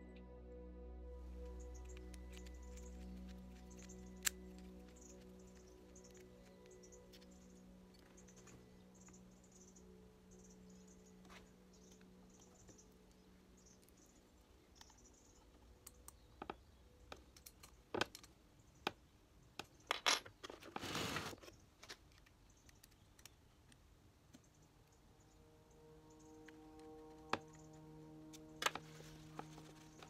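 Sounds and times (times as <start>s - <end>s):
faint background music: 0.0s - 20.2s, 22.5s - 30.0s.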